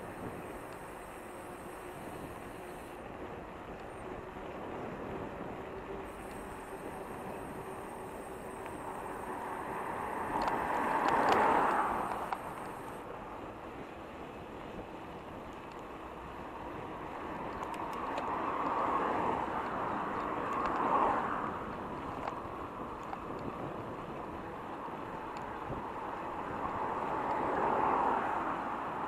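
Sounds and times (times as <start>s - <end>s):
motor vehicles passing: 0.0s - 29.0s
road noise while cycling: 0.0s - 29.0s.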